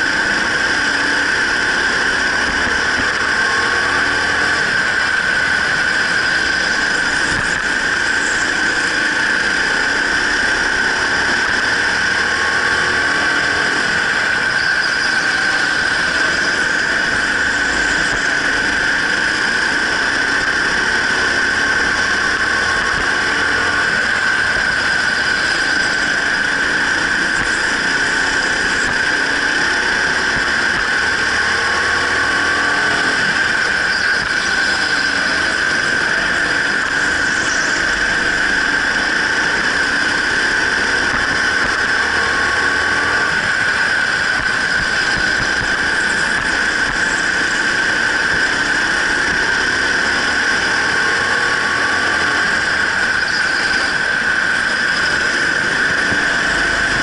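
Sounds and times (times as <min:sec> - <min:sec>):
go-kart engine high-pitched whine: 0:00.0 - 0:57.0.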